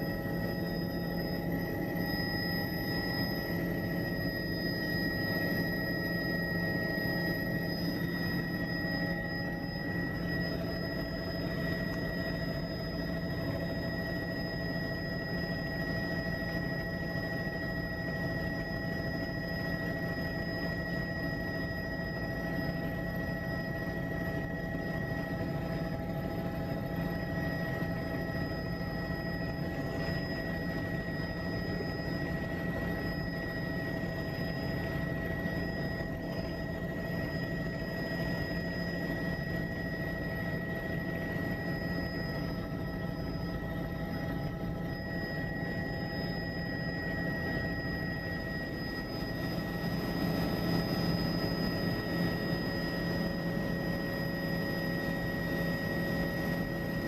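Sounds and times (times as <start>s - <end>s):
helicopter engine and rotor drone: 0.0s - 57.0s
high whine: 0.0s - 57.0s.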